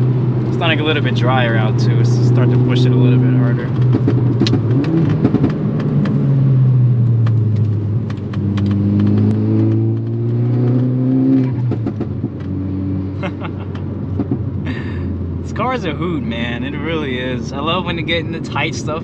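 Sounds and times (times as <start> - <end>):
car engine revving: 0.0 - 19.0
exhaust crackles: 0.0 - 19.0.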